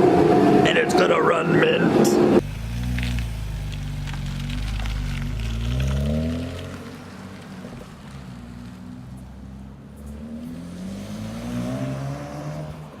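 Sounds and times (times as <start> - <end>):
car engine and exhaust revving: 1.8 - 13.0.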